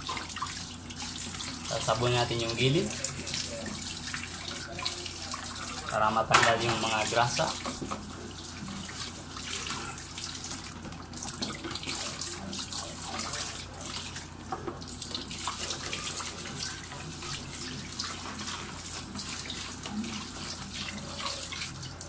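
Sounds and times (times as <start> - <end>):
tap water running and splashing: 0.0 - 22.0.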